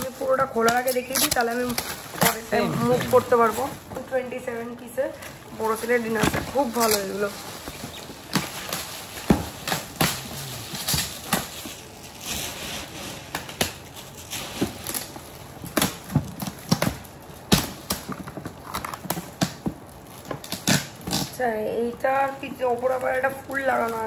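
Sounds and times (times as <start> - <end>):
packaging knocks and rustles: 0.0 - 4.6, 5.2 - 21.4.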